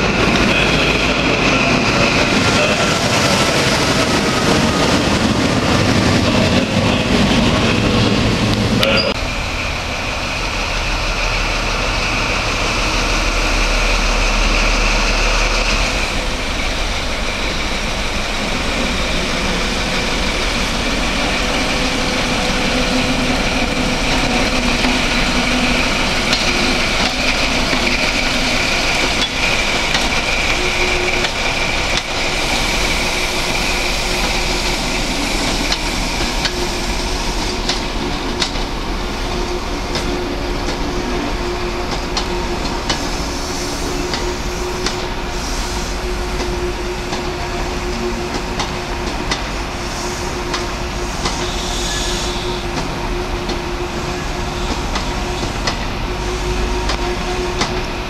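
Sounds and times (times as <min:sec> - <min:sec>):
diesel train engine running: 0:00.0 - 0:58.0
rumble of coaches rolling by: 0:00.0 - 0:58.0.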